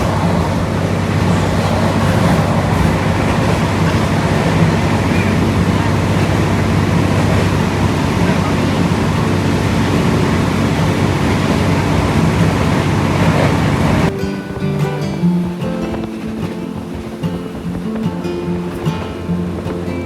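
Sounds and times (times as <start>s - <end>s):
moving train rumble: 0.0s - 20.0s
strummed guitar music: 0.0s - 20.0s.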